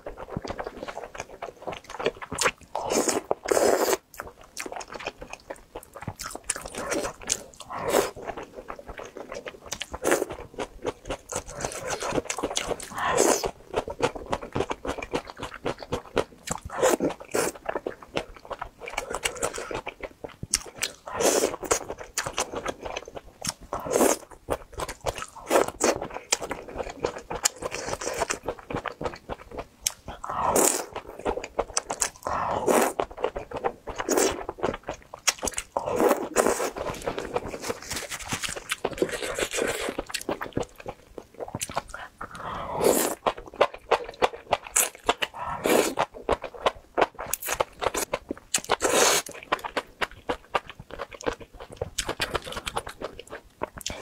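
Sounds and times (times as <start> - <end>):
wet chewing and biting: 0.0 - 42.4, 43.0 - 54.0.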